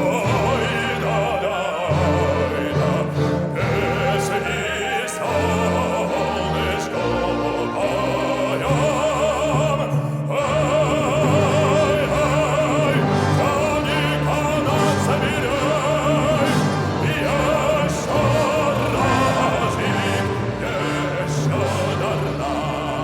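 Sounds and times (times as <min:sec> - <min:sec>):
operatic bass singing: 0:00.0 - 0:23.0.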